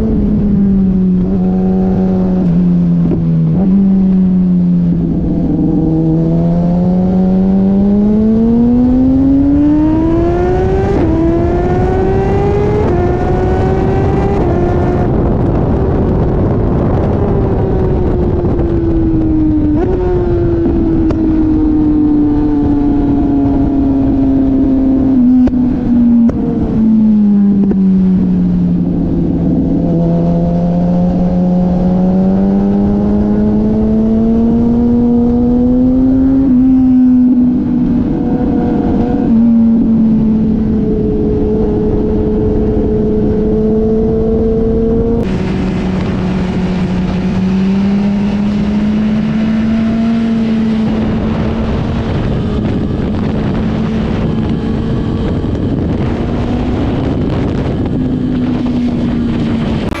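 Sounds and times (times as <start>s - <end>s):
motorcycle engine running hard: 0.0s - 60.0s
wind rush on microphone: 0.0s - 60.0s.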